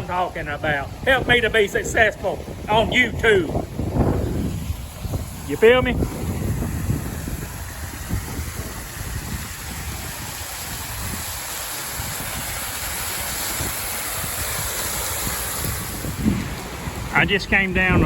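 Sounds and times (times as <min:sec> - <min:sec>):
heavy rain hissing: 0:00.0 - 0:18.0
wind buffeting microphone: 0:00.0 - 0:18.0.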